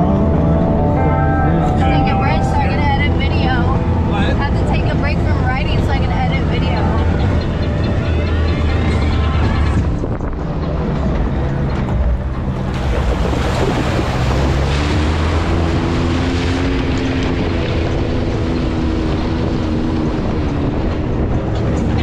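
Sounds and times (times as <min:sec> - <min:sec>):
rushing road noise: 0:00.0 - 0:22.0
utility vehicle engine running: 0:00.0 - 0:22.0
heavy wind on microphone: 0:01.9 - 0:22.0.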